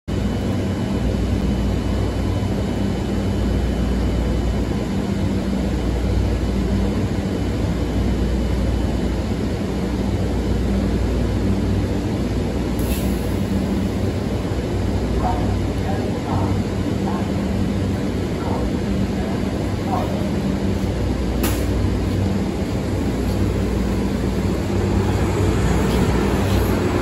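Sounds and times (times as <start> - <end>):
bus engine drone: 0.1 - 27.0.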